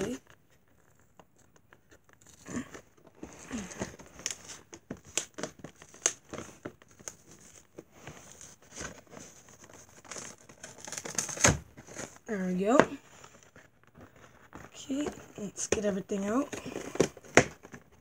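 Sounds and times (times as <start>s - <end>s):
cardboard packaging crinkling and tearing: 0.0s - 18.0s.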